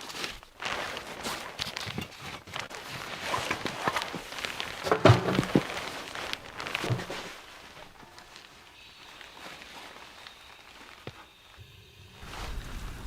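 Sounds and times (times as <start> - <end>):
footsteps crunching in snow: 0.0 - 11.6, 12.2 - 13.0.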